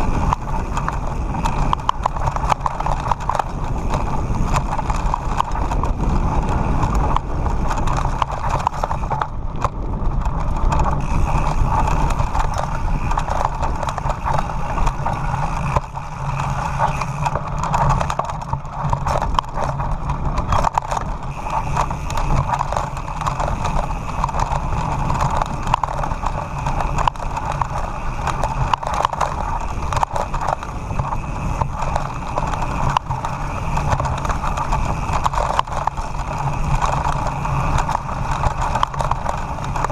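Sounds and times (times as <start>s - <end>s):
bike rattling: 0.0s - 39.9s
tyres crunching over stones: 0.0s - 39.9s
wind rumble on microphone: 0.0s - 39.9s.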